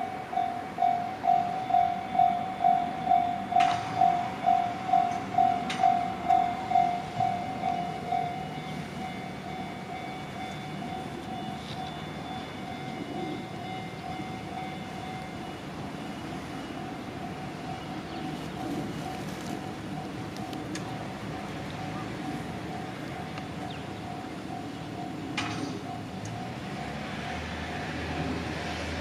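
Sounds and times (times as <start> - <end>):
level-crossing warning bell: 0.0 - 29.0
train running noise: 0.0 - 29.0.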